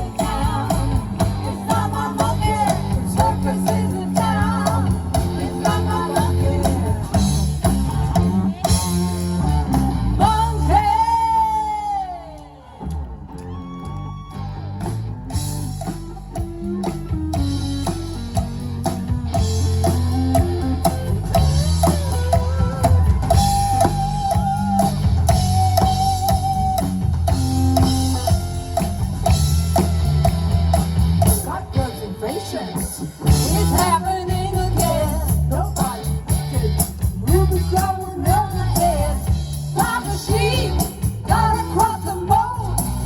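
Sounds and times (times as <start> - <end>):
live rock band playing: 0.0 - 11.9, 13.3 - 43.0.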